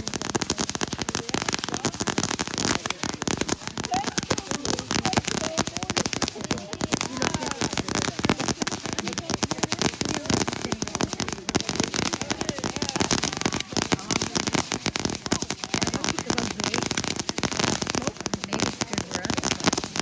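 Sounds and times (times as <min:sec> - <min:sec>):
fireworks crackling and popping: 0:00.0 - 0:20.0
onlookers murmuring: 0:00.0 - 0:20.0.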